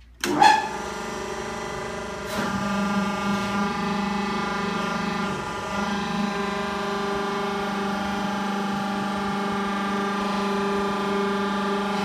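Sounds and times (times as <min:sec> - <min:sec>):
electric motor and pump humming: 0:00.0 - 0:12.0.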